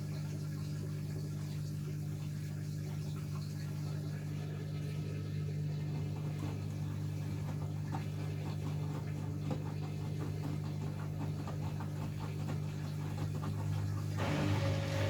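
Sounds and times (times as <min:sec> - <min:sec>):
washing machine drum humming: 0:00.0 - 0:15.0
wet laundry and water sloshing: 0:00.0 - 0:15.0.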